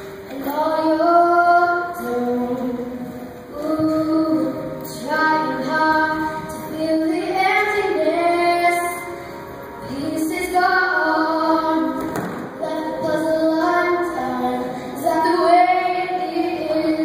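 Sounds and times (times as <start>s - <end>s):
girl singing into a microphone: 0.0s - 17.0s.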